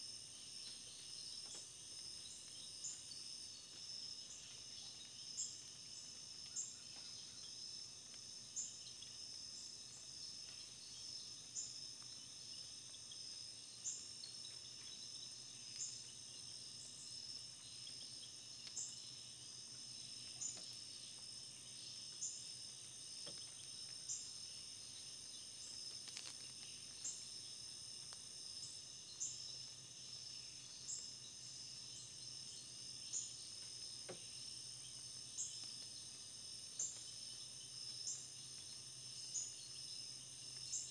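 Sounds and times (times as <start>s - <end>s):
insects chorus: 0.0s - 40.9s.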